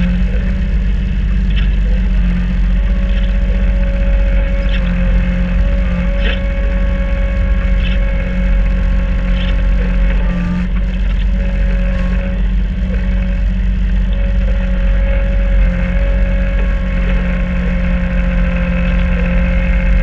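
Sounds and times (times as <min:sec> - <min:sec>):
diesel tractor engine running: 0:00.0 - 0:20.0
snowblower whine: 0:00.0 - 0:20.0.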